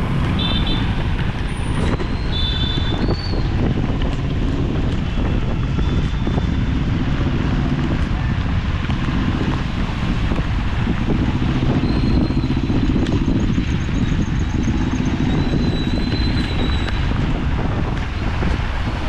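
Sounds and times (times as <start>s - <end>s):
bicycle tyres on wet road: 0.0s - 19.0s
wind rushing over microphone: 0.0s - 19.0s.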